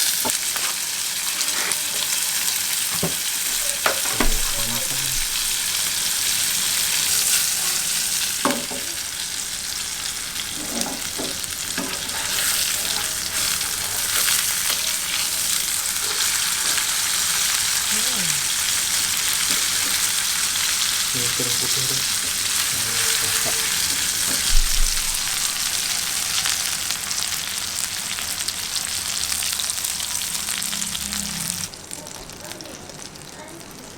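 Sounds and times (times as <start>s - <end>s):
steak sizzling in a pan: 0.0s - 33.9s.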